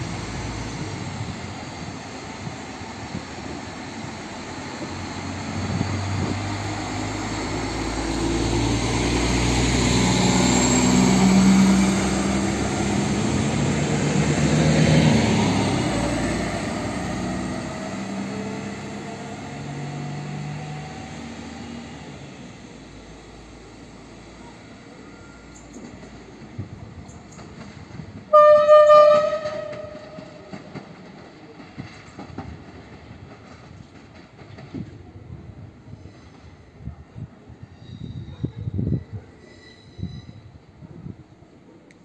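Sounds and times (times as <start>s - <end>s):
diesel train accelerating past: 0.0s - 42.0s.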